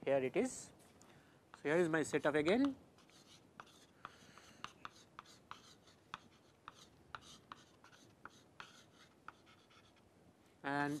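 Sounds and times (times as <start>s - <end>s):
chalk tapping and scratching: 0.8s - 10.0s, 10.7s - 11.0s.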